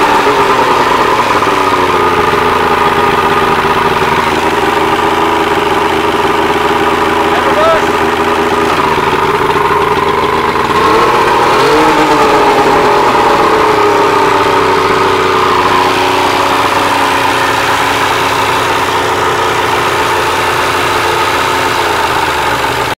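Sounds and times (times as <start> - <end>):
outboard motor idling: 0.0 - 23.0.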